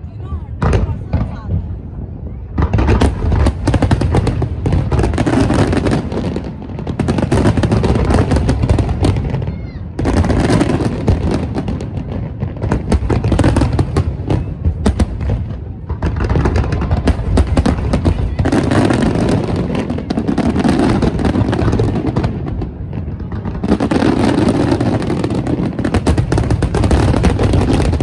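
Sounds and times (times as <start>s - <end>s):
fireworks bangs and crackles: 0.0s - 28.0s
deep fireworks booms: 0.3s - 28.0s.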